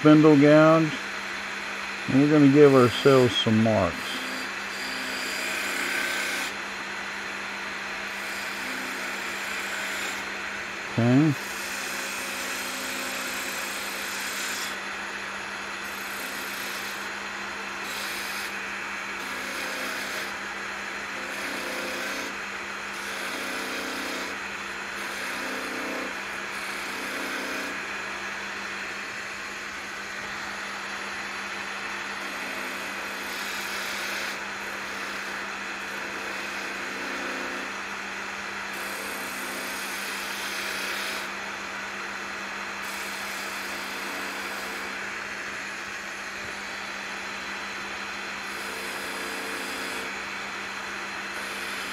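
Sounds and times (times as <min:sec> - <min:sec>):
gouge cutting spinning wood: 0:00.0 - 0:38.0, 0:38.6 - 0:41.5, 0:42.8 - 0:50.4, 0:51.3 - 0:51.9
wood lathe humming: 0:00.0 - 0:51.9.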